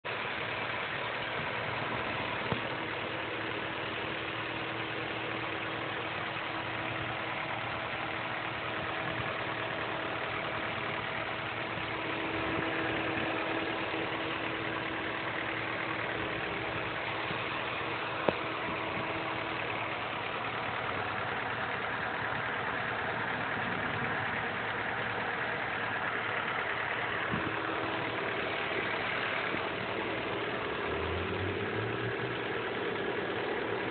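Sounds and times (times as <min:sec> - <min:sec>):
car engine idling: 0:00.0 - 0:33.9
engine ticking: 0:00.0 - 0:33.9.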